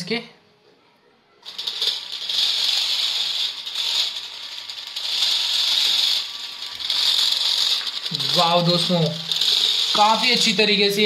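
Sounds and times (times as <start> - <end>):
robot motors whirring and rattling: 1.4 - 11.0.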